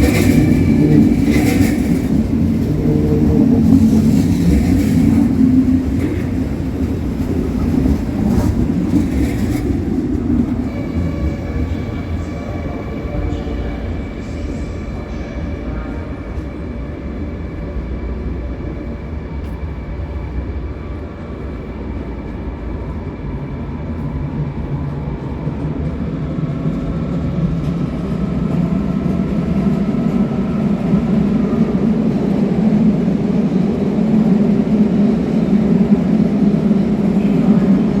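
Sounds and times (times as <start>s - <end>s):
train rumbling past: 0.0s - 38.0s.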